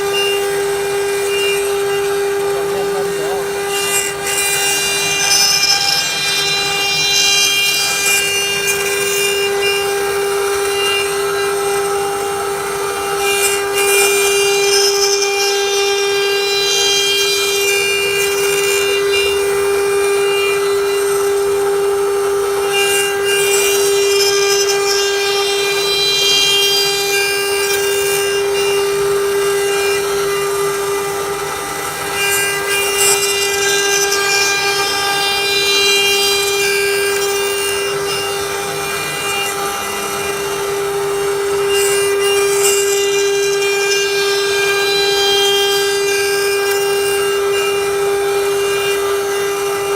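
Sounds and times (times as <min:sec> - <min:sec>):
bit cutting wood: 0:00.0 - 0:49.9
router spindle whine: 0:00.0 - 0:49.9.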